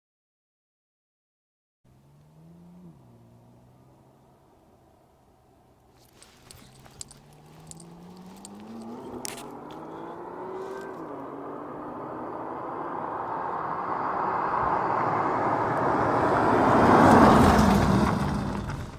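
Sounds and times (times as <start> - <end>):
car engine accelerating: 1.9 - 18.9.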